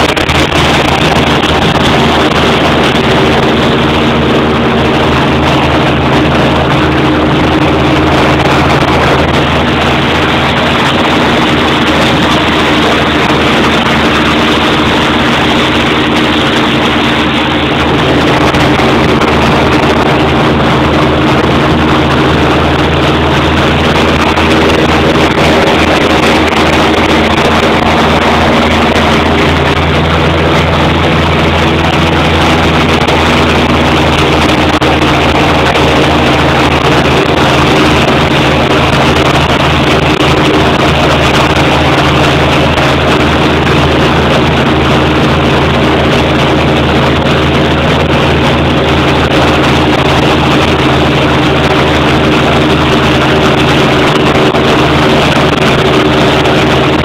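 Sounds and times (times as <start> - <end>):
airboat engine droning: 0.0 - 57.0.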